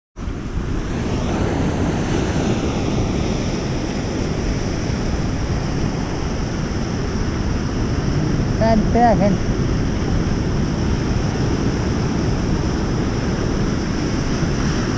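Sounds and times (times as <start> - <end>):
ocean surf breaking on shore: 0.2 - 14.9
wind buffeting microphone: 0.2 - 14.9.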